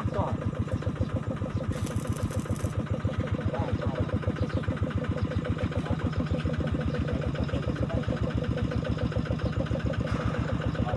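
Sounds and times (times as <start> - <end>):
engine idling: 0.0 - 10.9.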